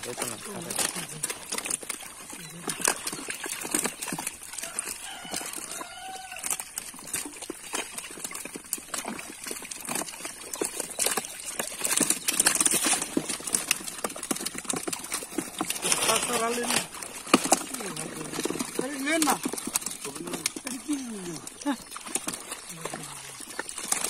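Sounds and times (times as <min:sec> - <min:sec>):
fish flapping and splashing: 0:00.0 - 0:24.0.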